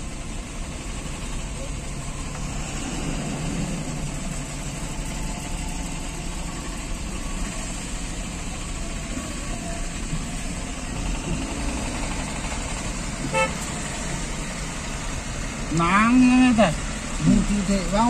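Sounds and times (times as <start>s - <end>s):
slow traffic engines idling: 0.0s - 18.0s.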